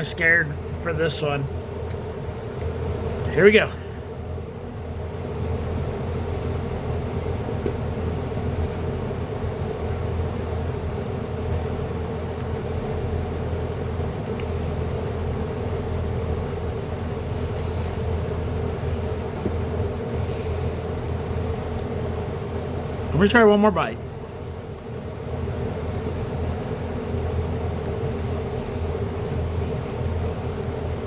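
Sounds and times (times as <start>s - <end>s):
low mechanical rumble and hum: 0.0s - 31.0s.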